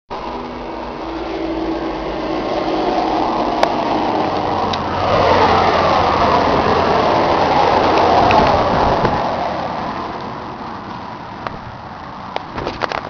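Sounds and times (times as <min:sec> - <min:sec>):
tractor diesel engine running: 0:00.1 - 0:12.0.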